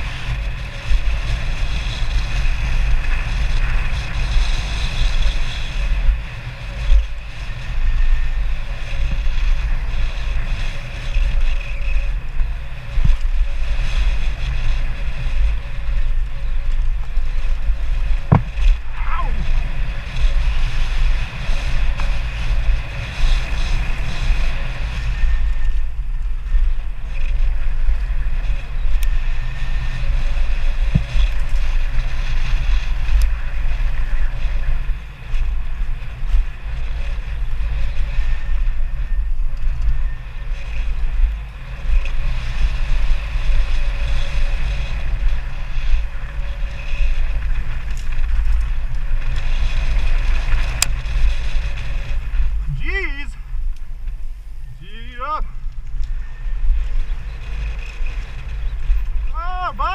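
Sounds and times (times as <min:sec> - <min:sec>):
bike rattles and clicks: 0:00.0 - 0:59.9
bike rolling on dirt trail: 0:00.0 - 0:59.9
wind buffeting microphone: 0:00.0 - 0:59.9.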